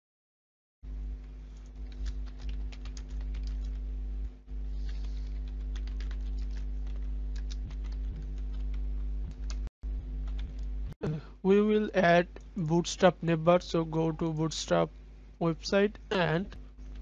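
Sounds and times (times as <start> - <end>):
low electrical hum: 0.9 - 17.0.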